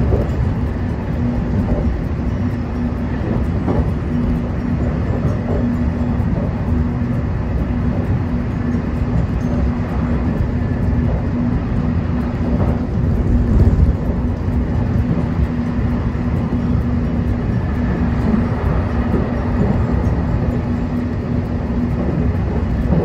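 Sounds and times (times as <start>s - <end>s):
constant low hum: 0.0s - 23.0s
train wheels rumbling on rails: 0.0s - 23.0s.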